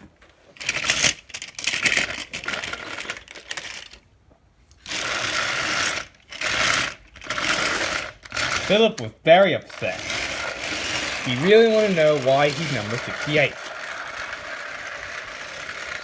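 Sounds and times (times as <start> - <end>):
toy train motor rattling on track: 0.6 - 4.0, 4.8 - 16.0.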